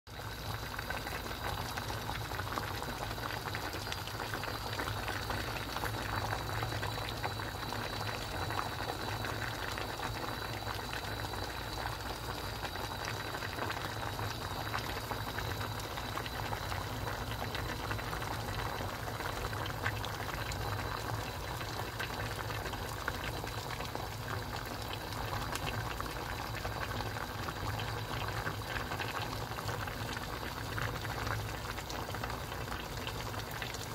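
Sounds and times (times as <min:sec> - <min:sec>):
broth bubbling in a pot: 0:00.1 - 0:33.9.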